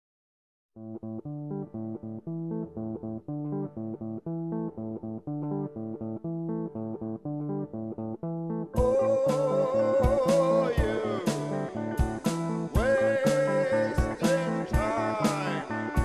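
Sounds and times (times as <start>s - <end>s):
low plucked-string notes: 1.0s - 16.0s.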